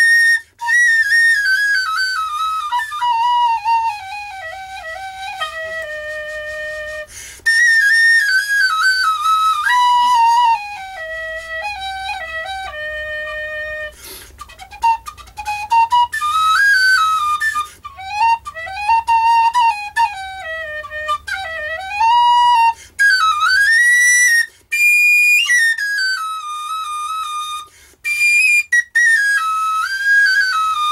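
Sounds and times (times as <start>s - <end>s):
flute melody: 0.0s - 30.9s.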